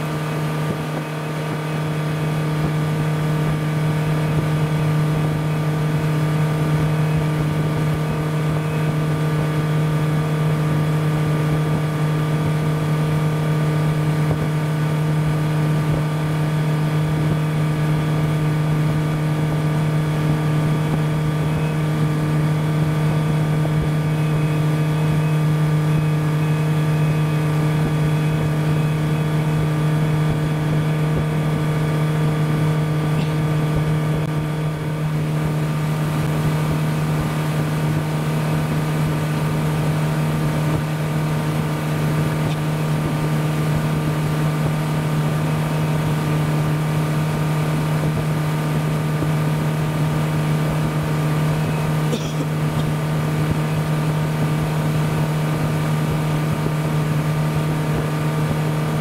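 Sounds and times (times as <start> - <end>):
motorboat engine droning: 0.0 - 59.0.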